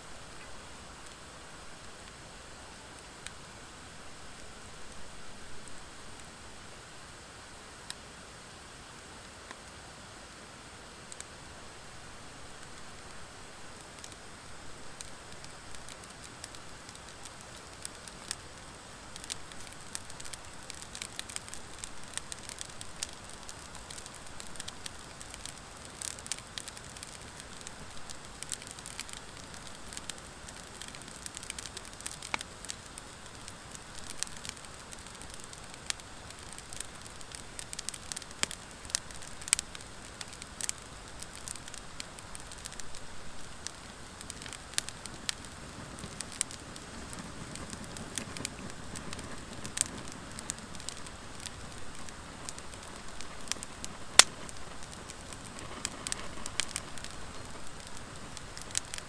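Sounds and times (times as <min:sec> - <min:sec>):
wood fire hissing: 0:00.1 - 0:59.0
fire crackling and popping: 0:10.9 - 0:59.0.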